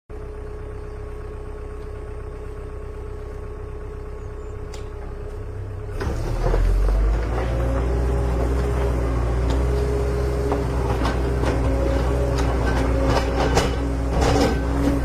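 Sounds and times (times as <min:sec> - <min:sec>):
diesel engine idling and revving: 0:00.1 - 0:15.0.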